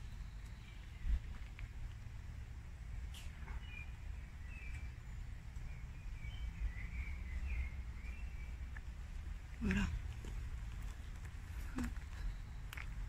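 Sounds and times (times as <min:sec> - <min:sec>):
small birds chirping: 0:00.0 - 0:02.1, 0:03.0 - 0:13.0
low background rumble: 0:00.0 - 0:13.0.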